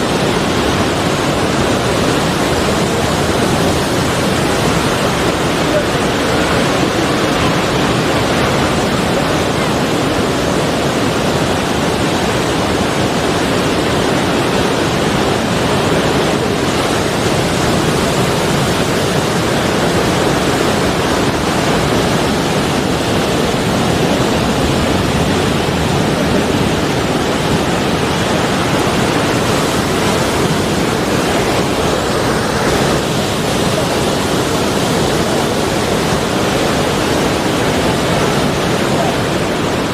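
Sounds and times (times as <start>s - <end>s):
sea waves and surf: 0.0s - 39.9s.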